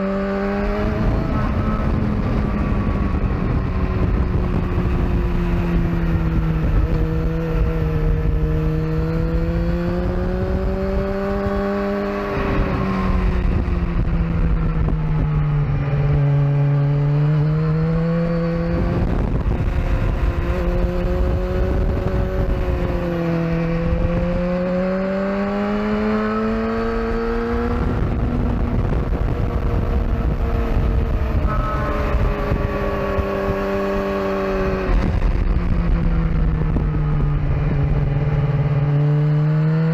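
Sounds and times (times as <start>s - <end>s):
motorcycle engine at speed: 0.0s - 39.9s
wind rumble: 0.0s - 39.9s.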